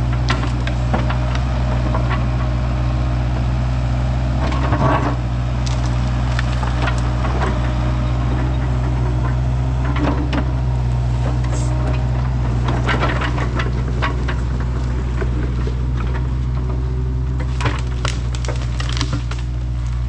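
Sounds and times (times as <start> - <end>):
wood cracking and splintering: 0.0 - 2.4, 4.4 - 20.0
excavator diesel engine: 0.0 - 20.0.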